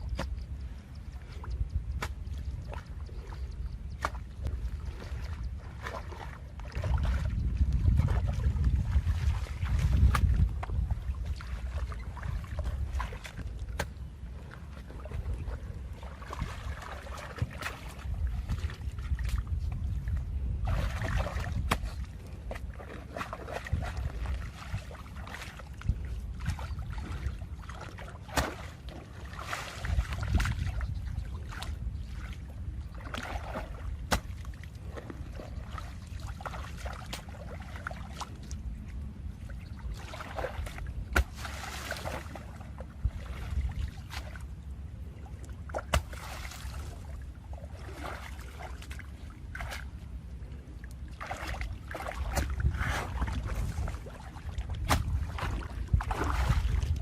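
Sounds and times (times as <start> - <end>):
water splashing and sloshing: 0.0 - 57.0
wind rumbling on microphone: 0.0 - 57.0.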